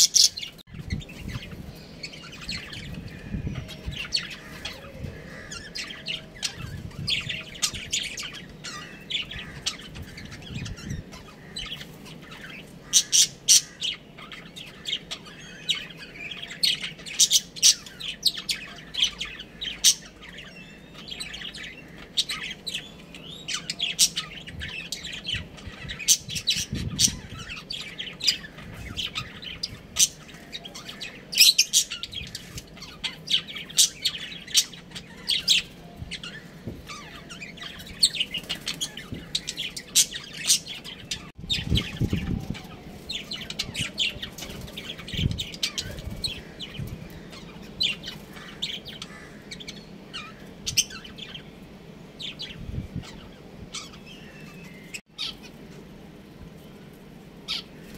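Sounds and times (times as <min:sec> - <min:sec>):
budgerigars chirping and chattering: 0:00.0 - 0:55.9, 0:57.5 - 0:57.9.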